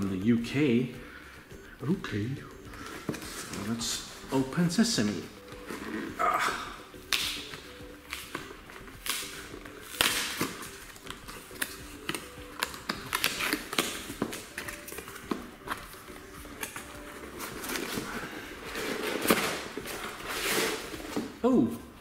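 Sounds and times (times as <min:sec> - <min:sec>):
cardboard packing rustling: 0:02.6 - 0:21.5.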